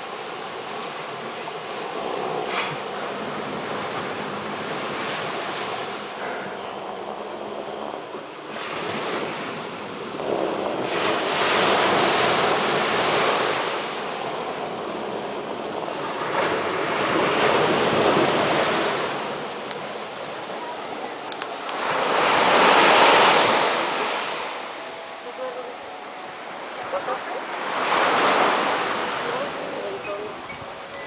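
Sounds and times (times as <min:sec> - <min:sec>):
waves breaking and washing in: 0:00.0 - 0:31.0
wind on microphone: 0:00.0 - 0:31.0.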